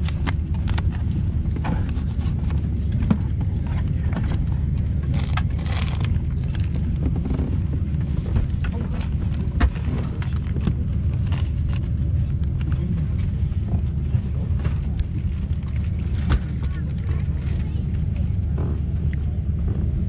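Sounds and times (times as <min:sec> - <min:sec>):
aircraft cabin rumble: 0:00.0 - 0:20.0.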